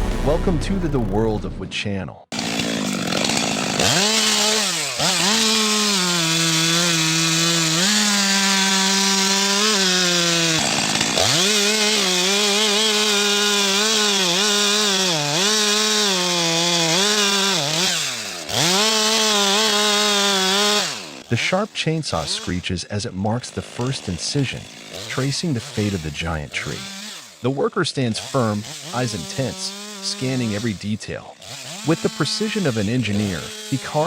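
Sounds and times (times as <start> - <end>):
chainsaw cutting into tree trunk: 2.4 - 34.0.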